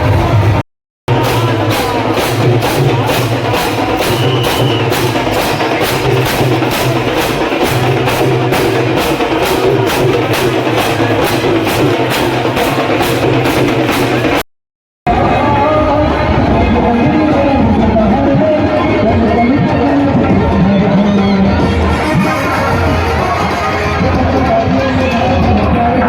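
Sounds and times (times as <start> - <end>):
drums playing fast beat: 0.0 - 14.4, 15.1 - 26.0.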